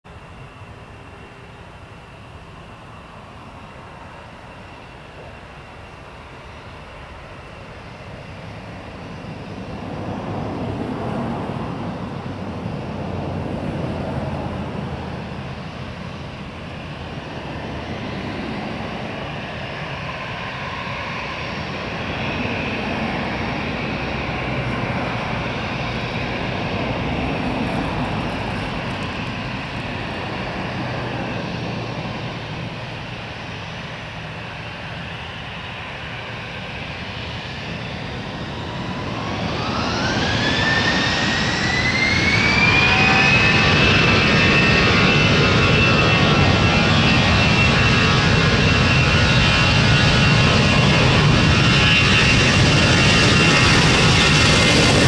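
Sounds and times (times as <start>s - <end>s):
jet engines whining at taxi power: 0.1s - 55.0s.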